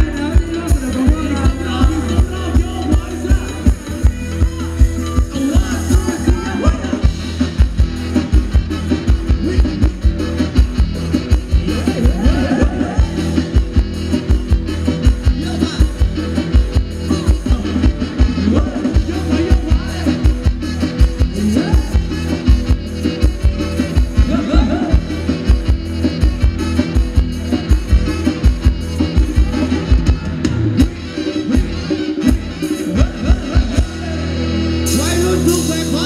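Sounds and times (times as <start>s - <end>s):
fast drum beat: 0.0s - 34.2s, 34.8s - 36.0s
live dance band playing: 0.0s - 36.0s.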